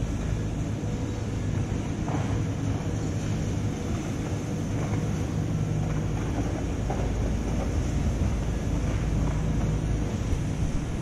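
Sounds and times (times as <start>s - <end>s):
faint steady hum: 0.0s - 11.0s
low rumble of city ambience: 0.0s - 11.0s.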